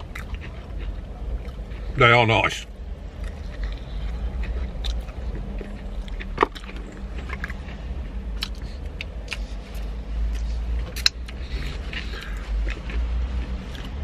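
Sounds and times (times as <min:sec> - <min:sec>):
mouth-closed chewing: 0:00.0 - 0:02.0, 0:03.0 - 0:14.0
low vehicle rumble: 0:00.0 - 0:14.0.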